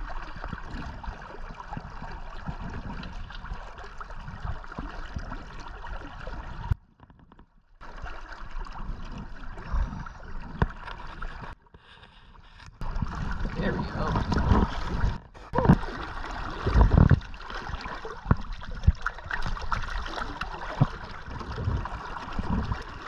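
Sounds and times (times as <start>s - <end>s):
river water lapping: 0.0s - 6.8s, 7.8s - 23.0s.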